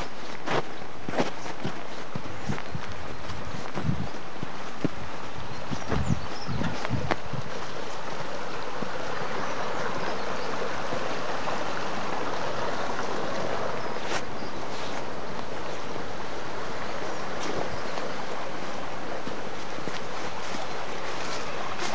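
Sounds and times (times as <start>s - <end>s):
brook running over stones: 0.0s - 21.9s.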